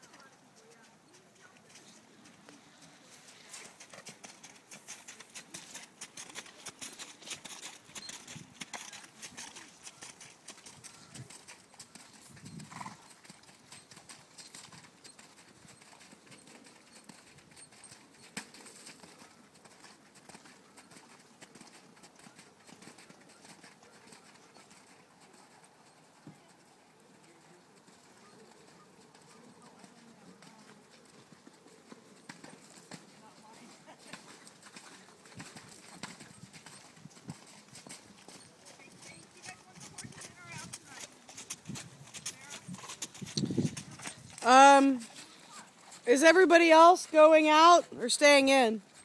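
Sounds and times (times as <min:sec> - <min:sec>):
hoofbeats on muddy ground: 0:00.0 - 0:49.0
horse sound: 0:00.0 - 0:49.0.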